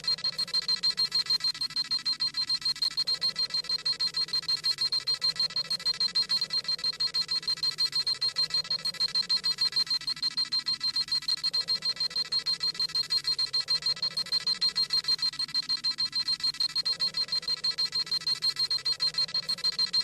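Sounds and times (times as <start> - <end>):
rapid high electronic beeping: 0.0 - 20.0.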